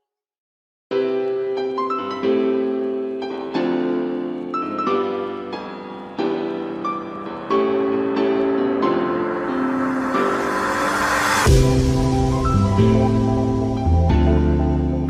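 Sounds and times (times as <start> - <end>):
piano music: 0.9 - 15.0.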